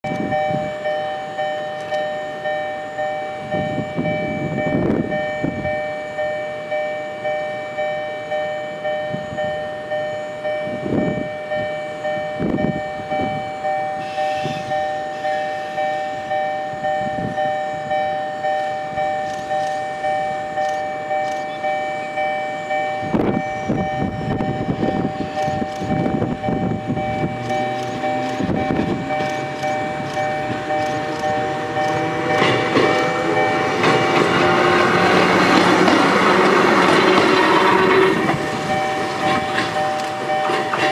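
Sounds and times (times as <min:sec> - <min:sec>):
level crossing warning bell: 0:00.0 - 0:40.9.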